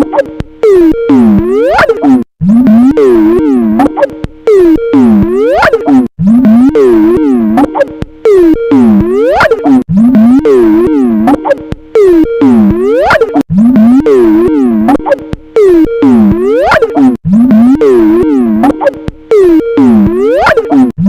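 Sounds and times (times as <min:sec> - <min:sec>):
distorted ringtone swooping tones: 0:00.0 - 0:20.9.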